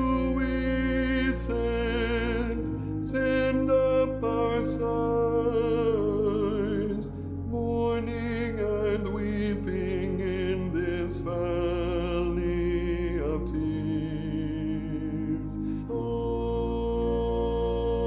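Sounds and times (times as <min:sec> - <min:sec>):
soprano singing a hymn: 0:00.0 - 0:18.0
sustained low accompanying notes: 0:00.0 - 0:18.0.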